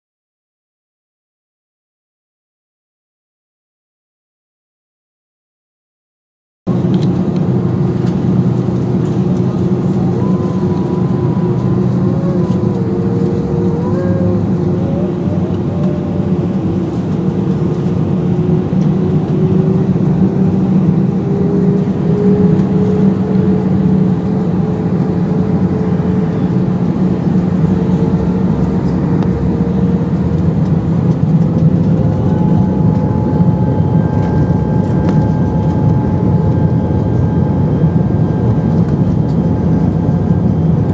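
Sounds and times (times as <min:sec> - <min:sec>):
high engine whine tones: 0:06.7 - 0:40.9
jet engine rumble and whine: 0:06.7 - 0:40.9.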